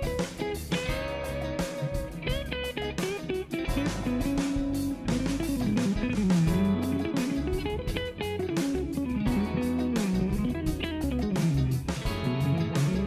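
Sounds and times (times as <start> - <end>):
bass line: 0.0 - 13.0
drum beat: 0.0 - 13.0
electric guitar melody: 0.0 - 13.0.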